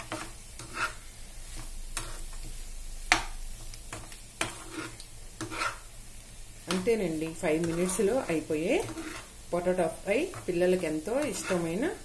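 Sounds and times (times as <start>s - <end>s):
spoon scraping a frying pan: 0.0s - 3.3s, 3.9s - 5.9s, 6.7s - 9.4s, 10.2s - 12.0s
potatoes sizzling in oil: 0.0s - 12.0s.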